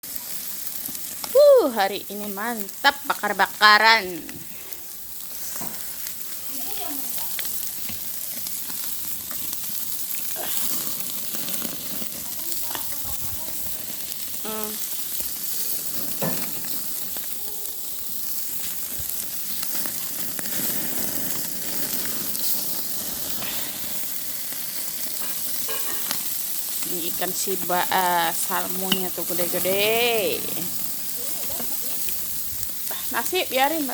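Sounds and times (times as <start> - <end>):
food sizzling on a grill: 0.0 - 33.9.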